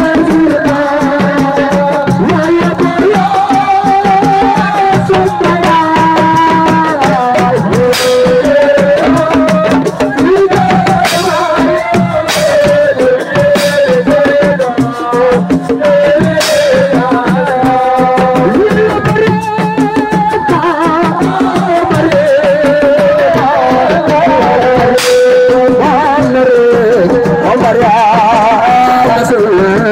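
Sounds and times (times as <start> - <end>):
hand drums and percussion: 0.0 - 29.9
person singing: 0.0 - 29.9.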